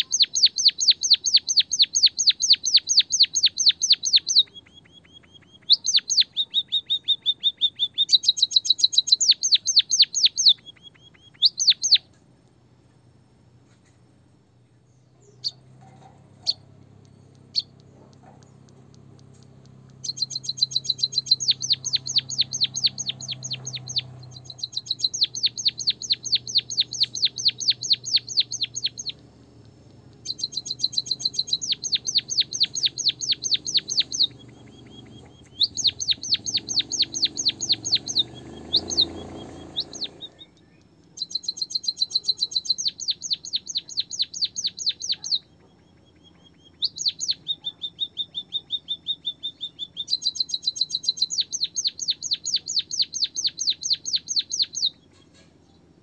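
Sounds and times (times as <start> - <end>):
munia chirping: 0.0 - 56.0.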